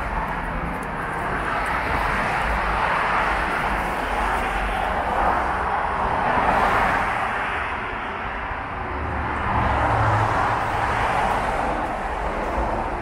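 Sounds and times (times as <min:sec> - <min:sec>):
traffic rushing past: 0:00.0 - 0:13.0.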